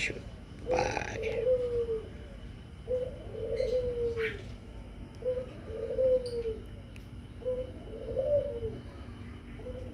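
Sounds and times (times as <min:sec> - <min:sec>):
bird cooing: 0:00.6 - 0:04.5, 0:05.2 - 0:06.8, 0:07.4 - 0:09.9.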